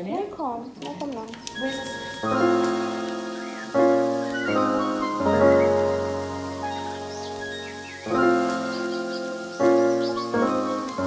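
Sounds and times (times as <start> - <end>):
sustained keyboard chords: 0.8 - 11.0.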